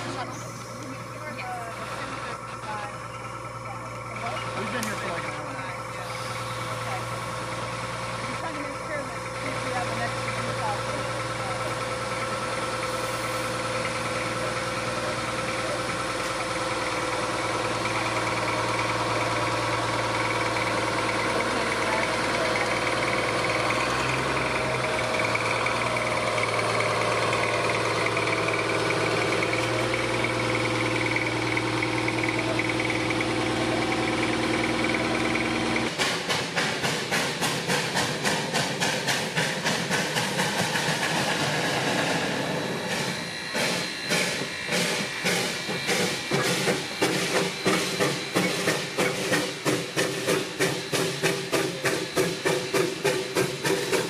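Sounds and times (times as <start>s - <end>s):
diesel locomotive engine running: 0.0s - 54.0s
steam locomotive rhythmic beat: 6.0s - 54.0s.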